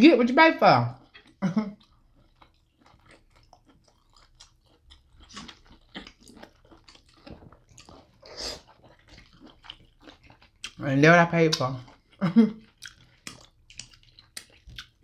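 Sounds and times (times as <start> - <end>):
people chewing: 1.0 - 15.0.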